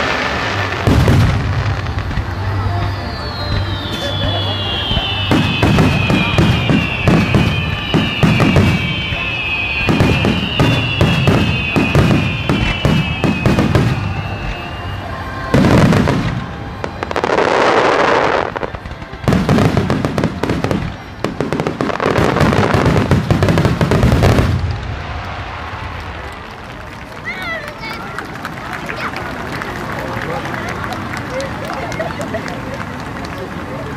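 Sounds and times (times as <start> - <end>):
falling firework whistles: 0.0 - 28.0
fireworks crackling: 0.0 - 33.9.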